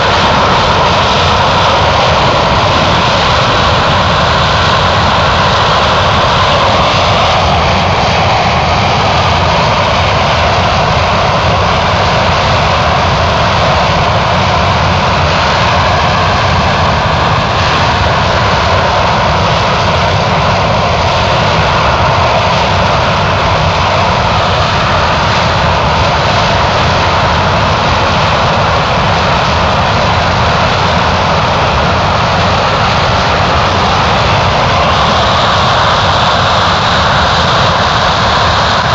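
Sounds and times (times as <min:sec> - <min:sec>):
light aircraft engine drone: 0:00.0 - 0:38.9.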